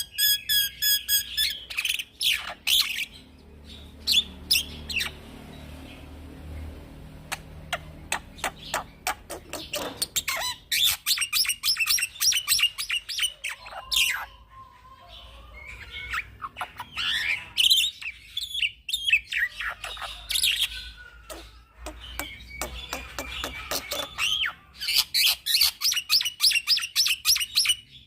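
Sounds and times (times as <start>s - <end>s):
bird singing varied song: 0.0s - 28.0s.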